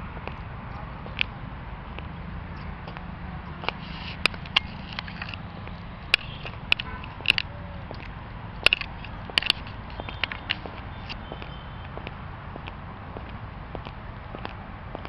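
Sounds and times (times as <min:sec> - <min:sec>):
footsteps on stone path: 0:00.1 - 0:15.0.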